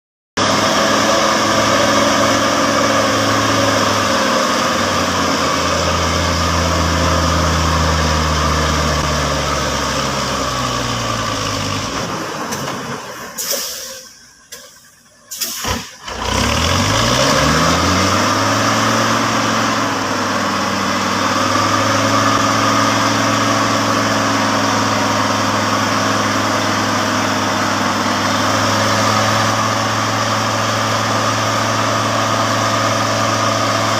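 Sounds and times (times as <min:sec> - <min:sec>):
truck engine running: 0:00.4 - 0:33.9.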